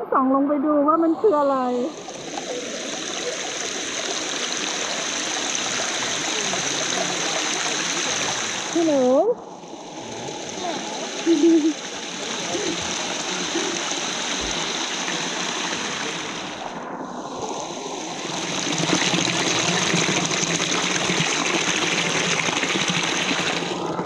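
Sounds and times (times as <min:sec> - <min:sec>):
water trickling over small cascade: 0:02.0 - 0:16.6, 0:18.2 - 0:23.9.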